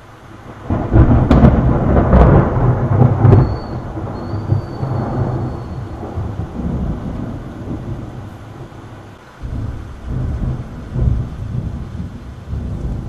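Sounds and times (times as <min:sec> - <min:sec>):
heavy rain: 0:00.0 - 0:13.0
thunder crashing and rumbling: 0:00.3 - 0:13.0.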